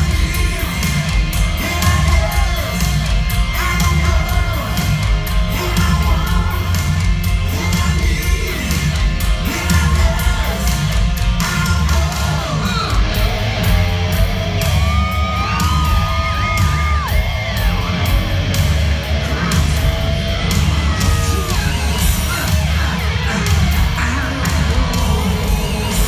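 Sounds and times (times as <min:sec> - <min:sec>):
fans yelling: 0:00.0 - 0:26.0
live hard rock band: 0:00.0 - 0:26.0.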